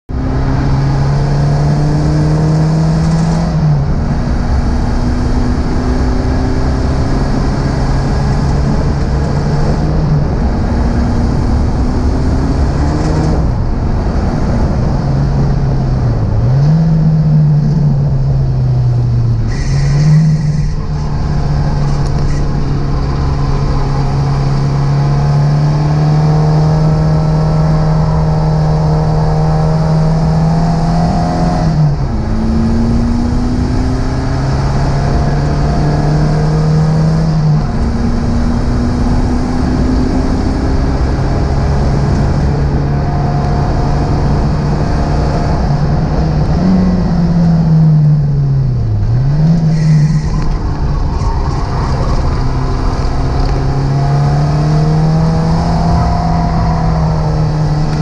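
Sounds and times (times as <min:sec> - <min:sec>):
car engine running hard: 0:00.1 - 0:58.0
wind and road noise: 0:00.1 - 0:58.0.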